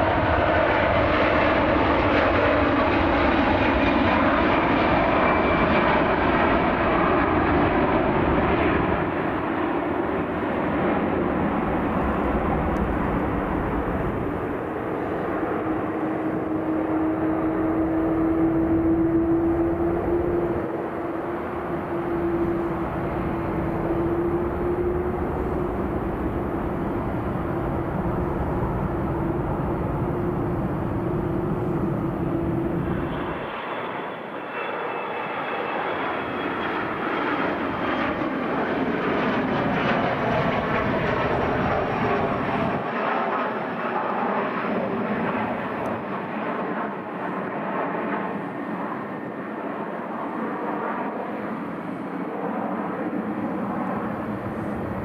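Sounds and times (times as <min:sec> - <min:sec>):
jet engines high whine: 0:00.0 - 0:55.0
jet engines rumbling: 0:00.0 - 0:55.0.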